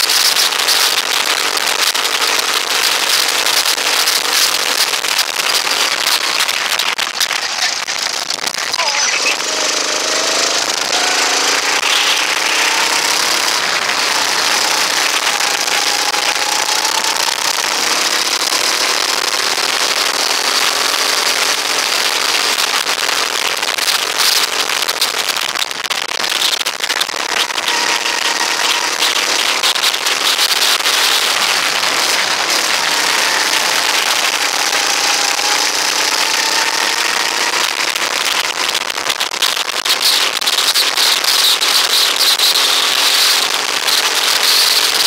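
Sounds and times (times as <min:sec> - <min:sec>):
go-kart engine running: 0:00.0 - 0:45.0.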